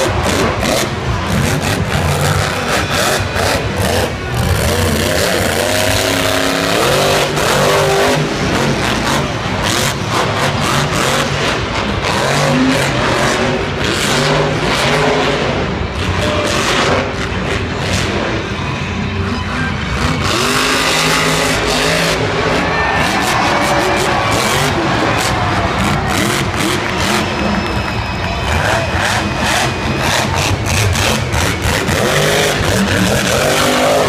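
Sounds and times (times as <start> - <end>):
truck engine revving: 0.0 - 34.0.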